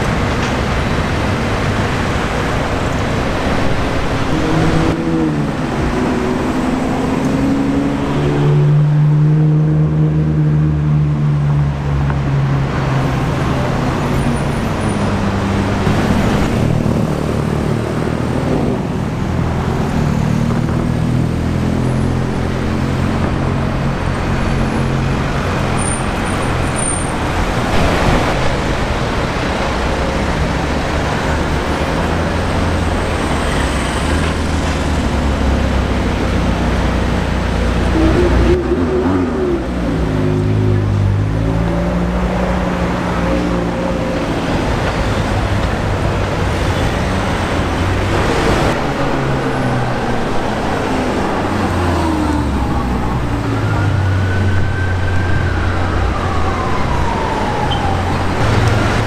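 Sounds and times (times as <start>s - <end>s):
sports car engines: 0.0s - 59.0s
traffic noise: 0.0s - 59.0s.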